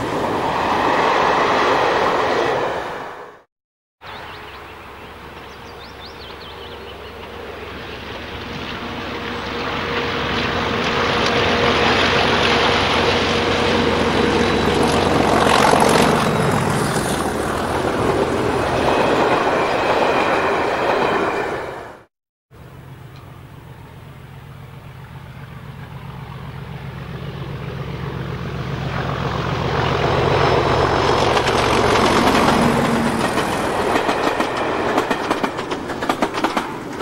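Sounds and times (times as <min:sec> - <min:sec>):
diesel locomotive engine passing: 0:00.0 - 0:03.5, 0:04.1 - 0:37.0
coaches running on rails: 0:04.1 - 0:37.0.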